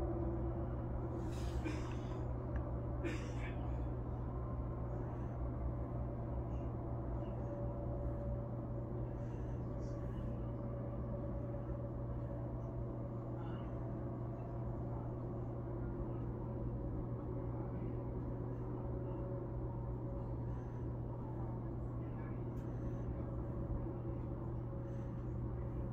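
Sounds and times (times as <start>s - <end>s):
low mechanical hum: 0.0s - 25.9s.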